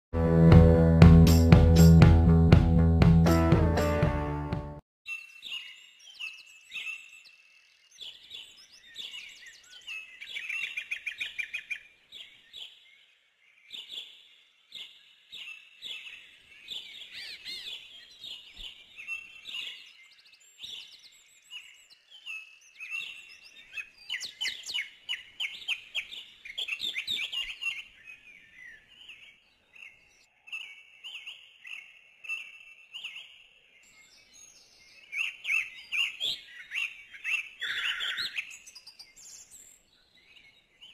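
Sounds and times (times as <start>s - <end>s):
small birds chirping: 5.1s - 40.9s.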